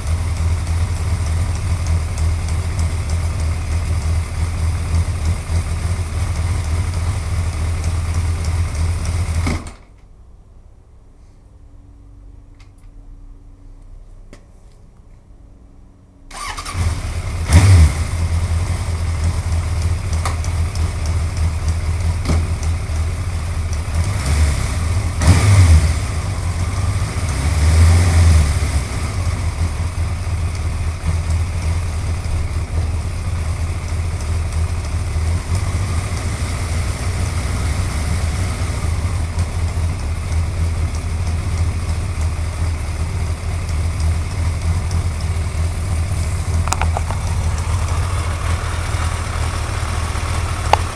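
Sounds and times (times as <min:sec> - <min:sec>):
motorcycle engine starting and idling: 0:00.0 - 0:10.1, 0:16.3 - 0:50.9.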